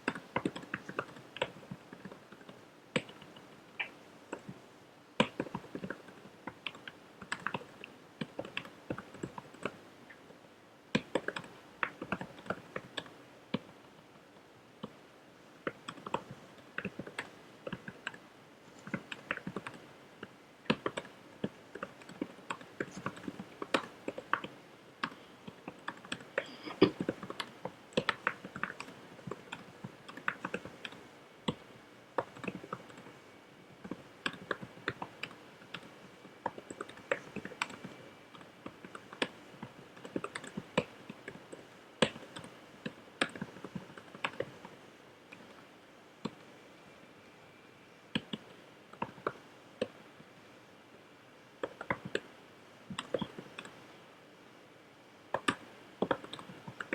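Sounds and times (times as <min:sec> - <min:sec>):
fast keyboard typing: 0:00.0 - 0:04.6, 0:05.2 - 0:10.2, 0:10.9 - 0:13.7, 0:15.6 - 0:18.2, 0:18.8 - 0:33.2, 0:33.8 - 0:45.6, 0:48.2 - 0:50.0, 0:51.6 - 0:52.3, 0:52.9 - 0:53.8, 0:55.3 - 0:56.9.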